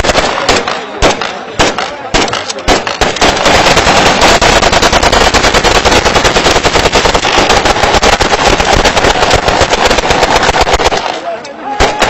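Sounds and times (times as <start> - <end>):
automatic rifles firing: 0.0 - 12.0.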